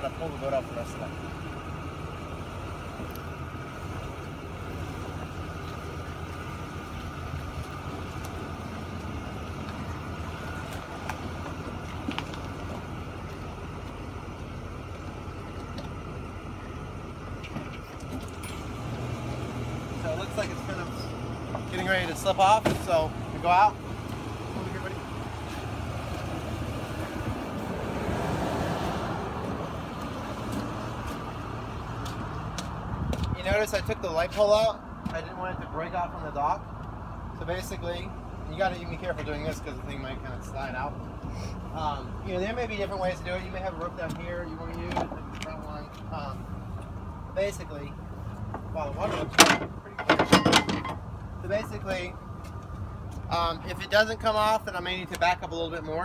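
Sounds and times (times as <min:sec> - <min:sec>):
car engine running at low speed: 0:00.0 - 0:56.0.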